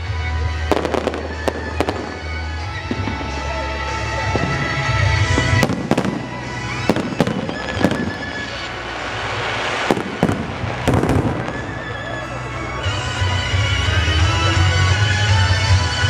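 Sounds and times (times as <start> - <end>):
fireworks bursting with bangs: 0.0 - 14.6
fireworks crackling: 0.0 - 16.0
music with held notes: 0.0 - 16.0.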